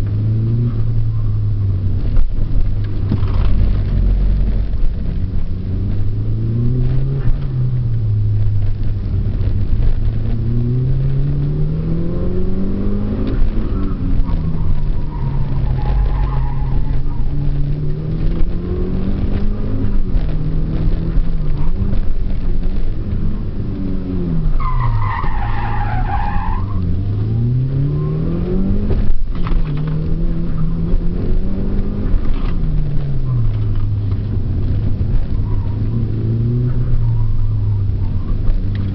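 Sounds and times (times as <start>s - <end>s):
racing car engine: 0.0s - 38.9s.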